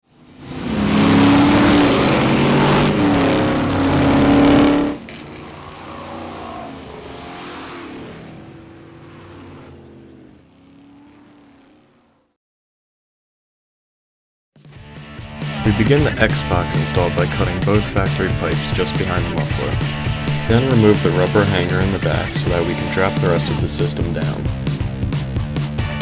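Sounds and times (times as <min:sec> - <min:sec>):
car engine revving: 0:00.0 - 0:12.4, 0:15.2 - 0:26.0.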